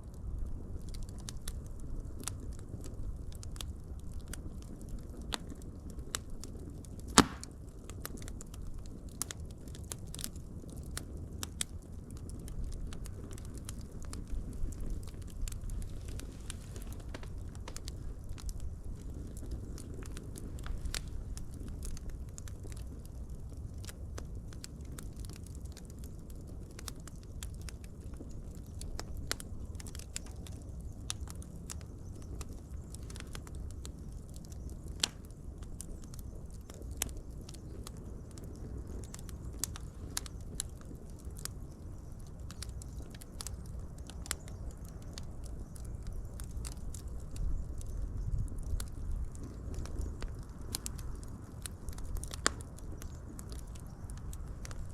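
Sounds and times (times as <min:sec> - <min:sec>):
fire crackling and popping: 0:00.0 - 0:54.9
fire rumbling: 0:00.0 - 0:54.9.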